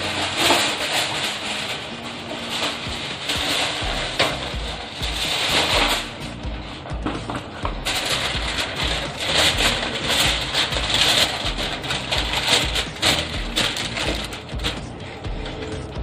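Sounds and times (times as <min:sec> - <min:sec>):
aluminium foil crinkling: 0:00.0 - 0:16.0
background music: 0:00.0 - 0:16.0
plastic bag rustling: 0:00.0 - 0:16.0.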